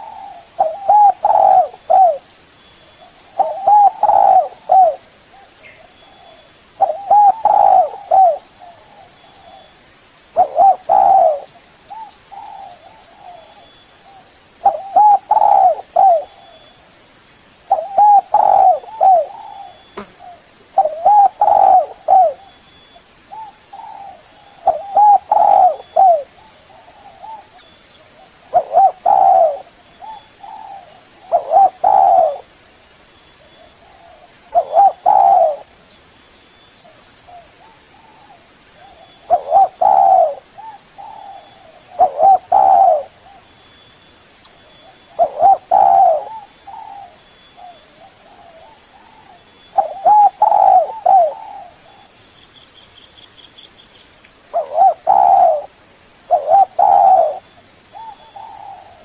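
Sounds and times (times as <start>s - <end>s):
dove cooing: 0.0s - 2.3s, 3.0s - 9.8s, 10.4s - 16.7s, 17.6s - 22.7s, 23.3s - 32.5s, 33.4s - 35.8s, 37.3s - 43.5s, 44.7s - 52.1s, 54.5s - 59.0s.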